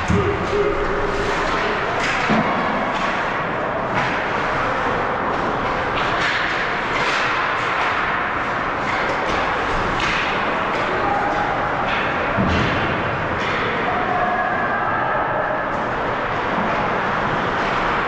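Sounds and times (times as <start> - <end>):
hockey sticks and puck clacking: 0.0 - 14.2, 15.6 - 18.0.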